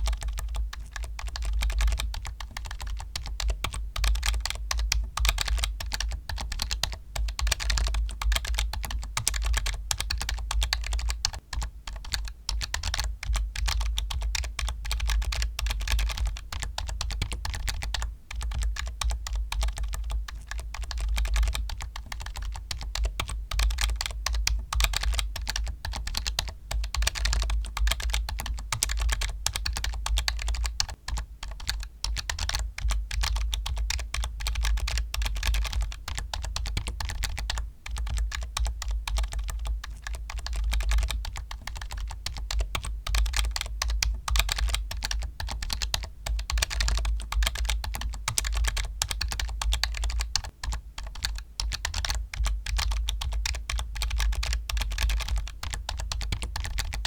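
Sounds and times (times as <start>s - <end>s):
fast typing on keyboard: 0.0s - 57.0s.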